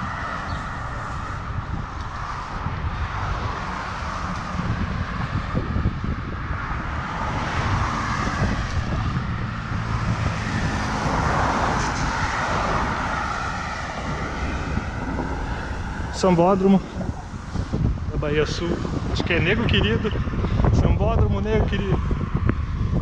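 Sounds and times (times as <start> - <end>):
traffic passing close by: 0.0 - 23.0
wind rumbling on microphone: 0.0 - 23.0.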